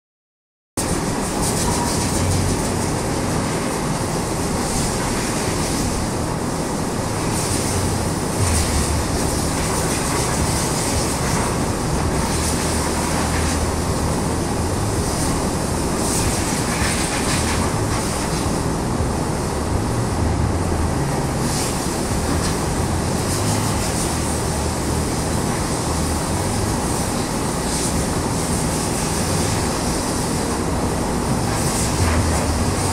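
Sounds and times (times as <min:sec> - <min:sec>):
drum fan running: 0:00.8 - 0:32.9.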